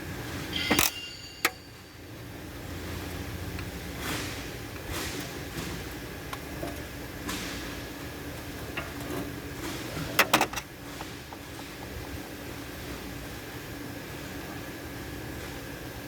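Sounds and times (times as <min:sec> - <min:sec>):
low workshop hum: 0:00.0 - 0:16.0.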